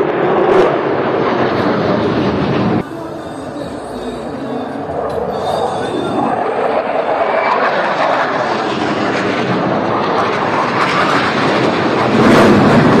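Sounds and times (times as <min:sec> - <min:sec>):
fighter jet passing overhead: 0:00.0 - 0:13.0.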